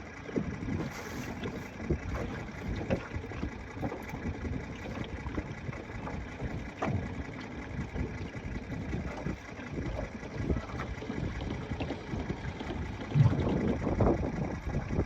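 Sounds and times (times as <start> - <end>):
wind buffeting microphone: 0.4 - 15.0.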